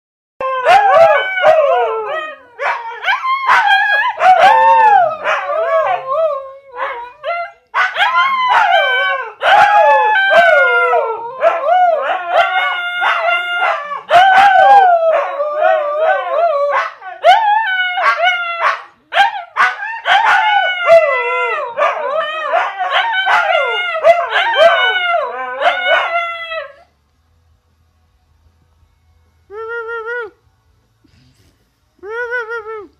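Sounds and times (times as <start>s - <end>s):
dogs howling: 0.4s - 26.9s.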